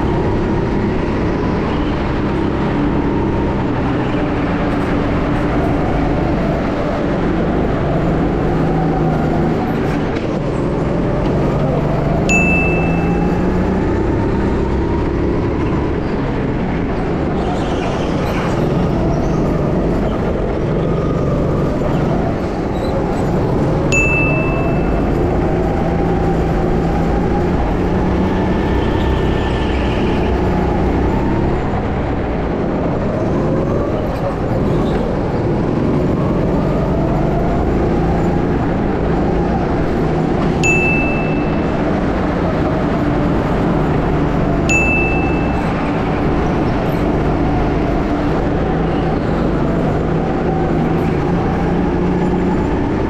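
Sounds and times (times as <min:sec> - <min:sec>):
go-kart engines revving: 0:00.0 - 0:53.0.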